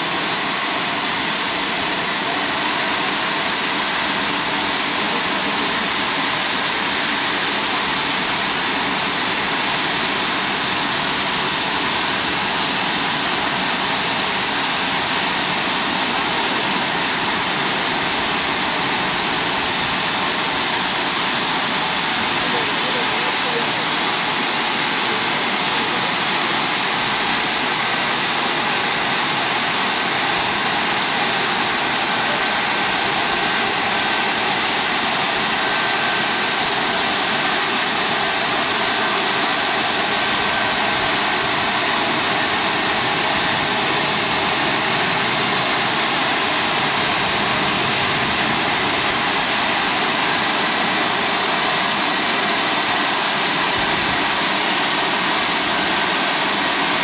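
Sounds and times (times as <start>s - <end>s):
car wash brushes and water rushing: 0.0s - 57.0s.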